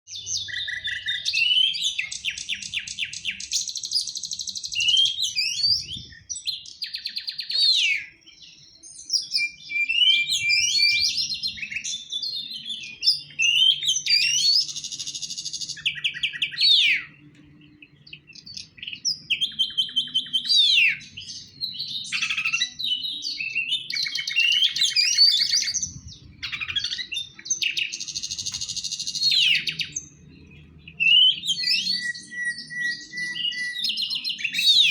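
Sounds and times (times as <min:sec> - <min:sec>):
magpie-robin singing trills: 0:00.1 - 0:34.9.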